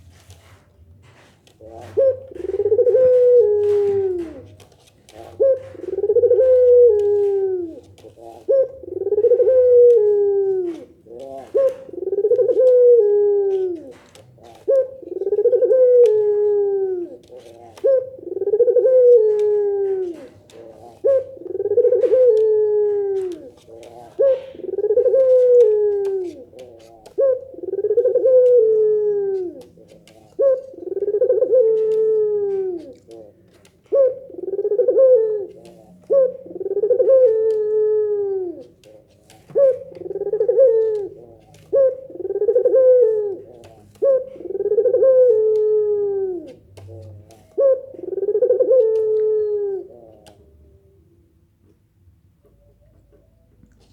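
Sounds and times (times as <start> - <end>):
dove cooing: 0.0 - 51.8.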